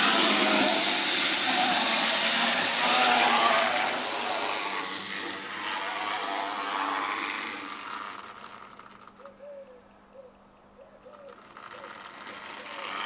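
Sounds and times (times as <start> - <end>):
model train wheels rattling: 0.0 - 9.3, 11.2 - 13.0
small electric motor whirring: 0.0 - 9.3, 11.2 - 13.0.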